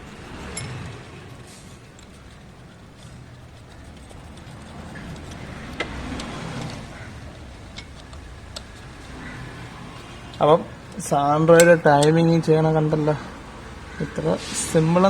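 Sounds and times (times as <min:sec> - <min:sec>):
low background rumble: 0:00.0 - 0:14.3.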